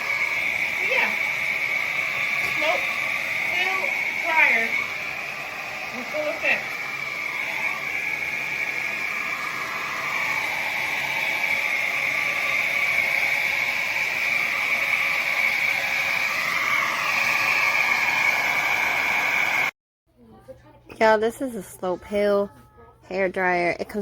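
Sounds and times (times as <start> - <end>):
hair dryer running: 0.0 - 19.8.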